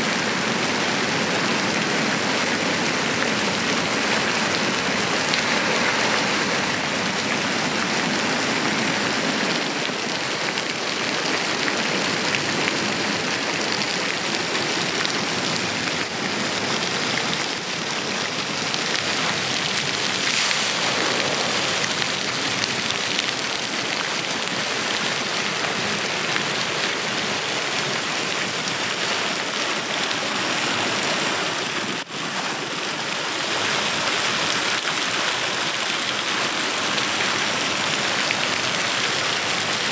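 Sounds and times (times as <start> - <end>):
rain falling on a swimming pool: 0.0 - 39.9.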